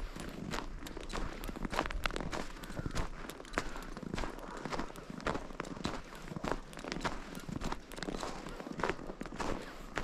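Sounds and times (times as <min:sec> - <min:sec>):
footsteps crunching in snow: 0:00.0 - 0:10.0.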